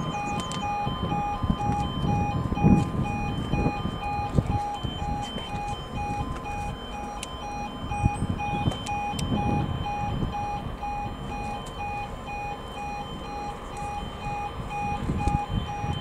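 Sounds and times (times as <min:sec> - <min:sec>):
level crossing two-tone beeping: 0:00.0 - 0:16.0
low rumble: 0:00.0 - 0:16.0.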